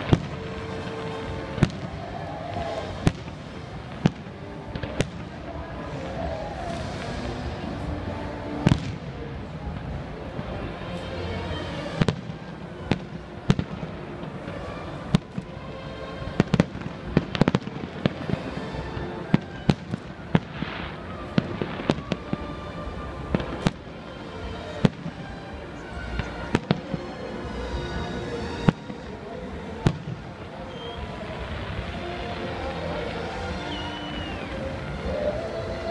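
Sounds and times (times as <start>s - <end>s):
fireworks bursting: 0.0s - 35.9s
music: 0.0s - 35.9s.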